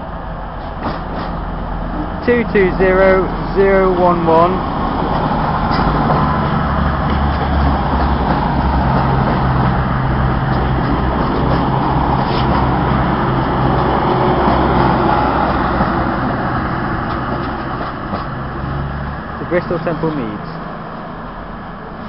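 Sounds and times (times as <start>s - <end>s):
train diesel engines droning: 0.0s - 22.0s.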